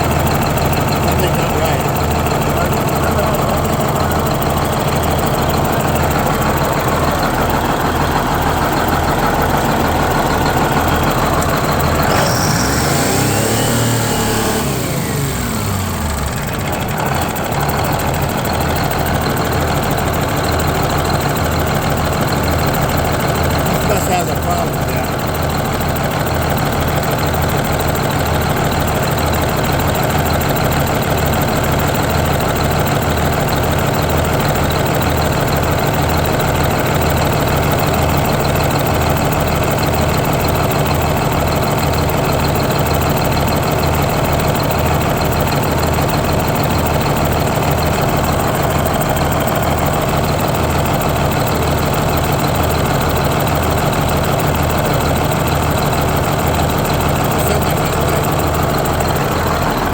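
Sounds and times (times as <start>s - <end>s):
diesel bus engine idling: 0.0s - 59.9s.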